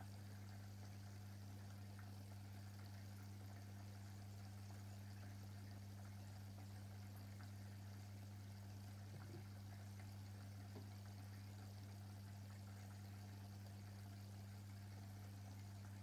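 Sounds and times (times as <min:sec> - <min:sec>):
aquarium equipment humming: 0:00.0 - 0:16.0
faint water trickle: 0:00.0 - 0:16.0.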